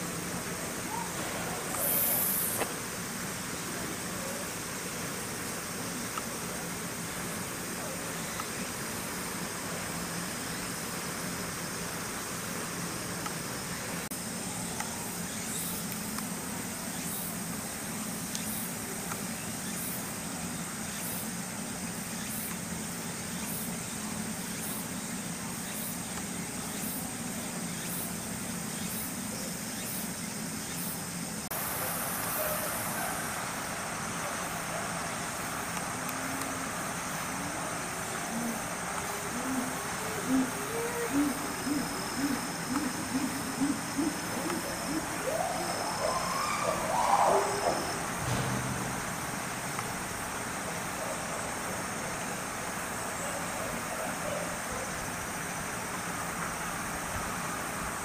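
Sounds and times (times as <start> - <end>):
low distant hum: 0.0 - 54.9
insect drone: 0.0 - 58.0
steady hiss: 0.0 - 58.0.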